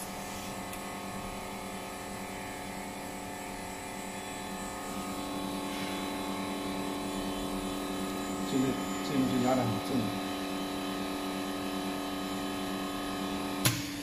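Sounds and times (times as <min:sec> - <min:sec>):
machine hum with constant tones: 0:00.0 - 0:14.0.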